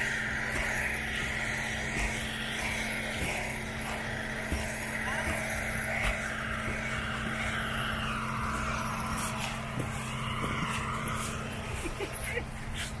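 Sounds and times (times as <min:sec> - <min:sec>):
low machine hum: 0:00.0 - 0:13.0
whine rising and falling: 0:00.0 - 0:13.0.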